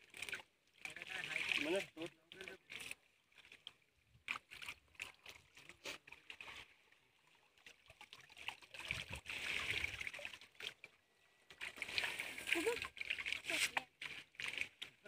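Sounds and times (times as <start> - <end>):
pond water splashing: 0.0 - 15.0.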